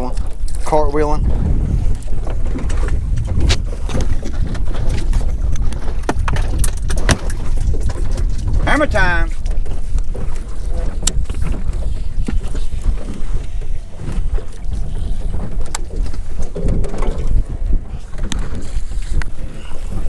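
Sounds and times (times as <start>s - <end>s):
water lapping against boat hull: 0.0s - 20.0s
wind rumbling on microphone: 0.0s - 20.0s.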